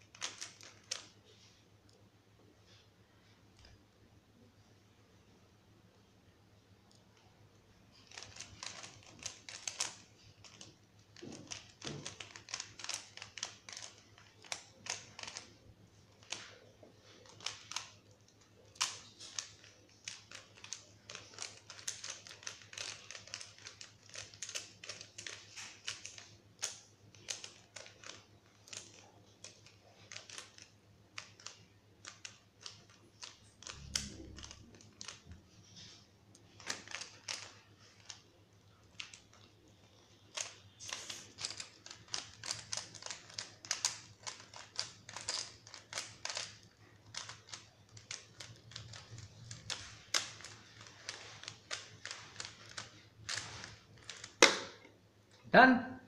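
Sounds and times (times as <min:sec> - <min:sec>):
puzzle cube layers clicking: 0:00.0 - 0:01.2, 0:07.9 - 0:55.0.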